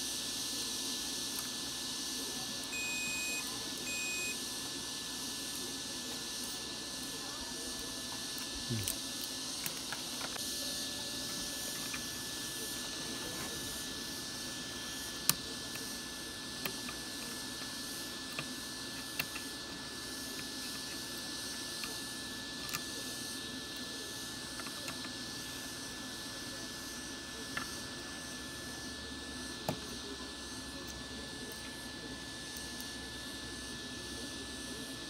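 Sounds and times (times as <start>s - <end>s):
faint high whine: 0.0s - 35.0s.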